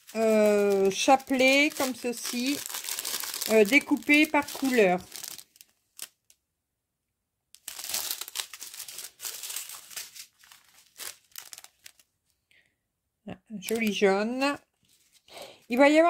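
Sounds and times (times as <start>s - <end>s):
plastic bags crinkling: 0.0s - 6.3s, 7.6s - 12.1s, 13.7s - 16.0s.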